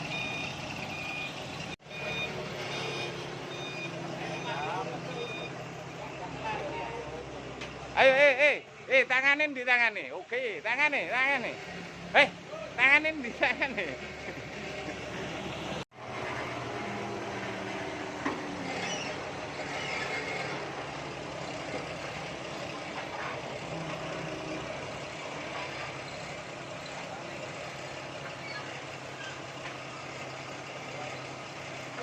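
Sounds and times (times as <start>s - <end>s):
truck engine humming: 0.0s - 32.0s.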